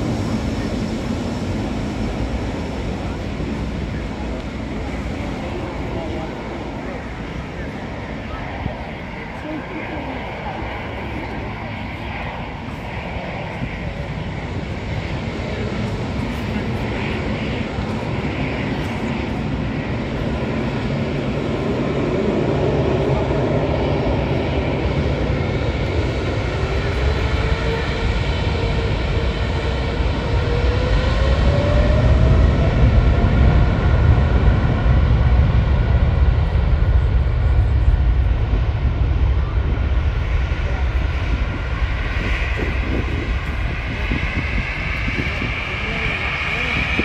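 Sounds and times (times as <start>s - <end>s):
jet engines deep rumble: 0.0s - 47.0s.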